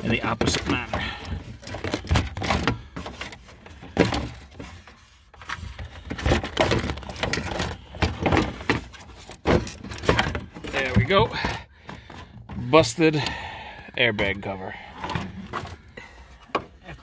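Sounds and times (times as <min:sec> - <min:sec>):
plastic knocks creaks and scrapes: 0:00.0 - 0:17.0.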